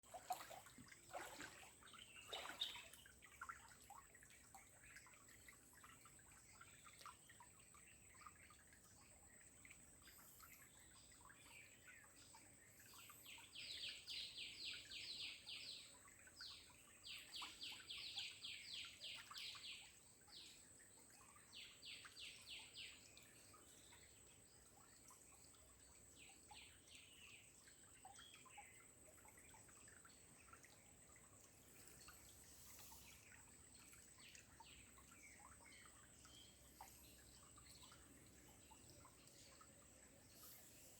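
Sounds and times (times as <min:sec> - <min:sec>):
bird singing faint trills: 0:00.0 - 0:40.9.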